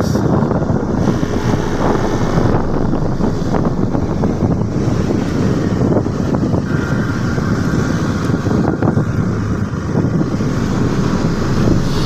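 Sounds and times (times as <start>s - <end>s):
vehicle running noise: 0.0s - 12.0s
wind buffeting microphone: 0.0s - 12.0s.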